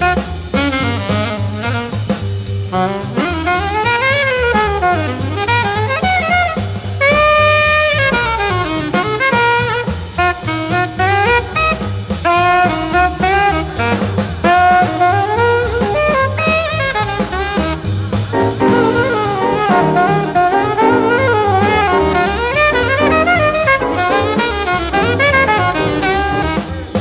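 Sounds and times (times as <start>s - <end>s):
horn playing fast melody: 0.0s - 2.1s, 2.7s - 27.0s
drum kit: 0.0s - 27.0s
walking bass: 0.0s - 27.0s.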